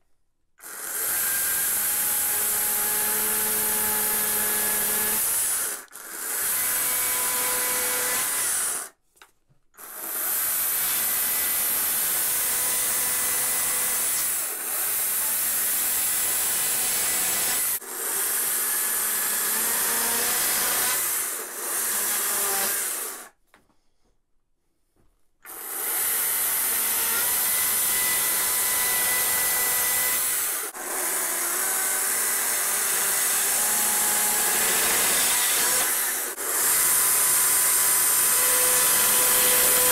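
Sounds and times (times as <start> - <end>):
battery chainsaw cutting wood: 0.6 - 9.0, 9.8 - 23.4, 25.5 - 39.9.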